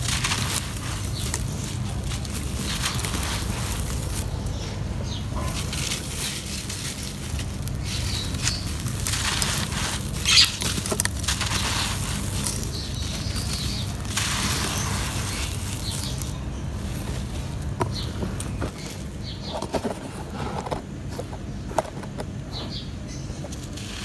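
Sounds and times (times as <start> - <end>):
sand pouring and trickling: 0.0 - 19.4, 23.7 - 24.0
sand blocks crushed by hand: 0.0 - 20.4.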